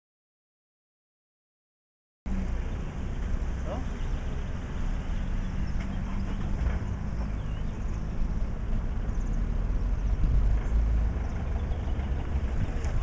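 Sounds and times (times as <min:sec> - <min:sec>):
driving through floodwater: 0:02.3 - 0:13.0
vehicle engine rumbling: 0:02.3 - 0:13.0.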